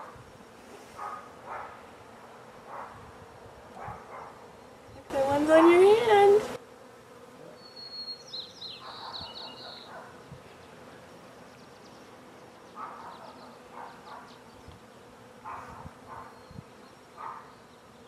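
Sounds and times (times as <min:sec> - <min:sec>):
honey bees humming: 0:00.0 - 0:18.0.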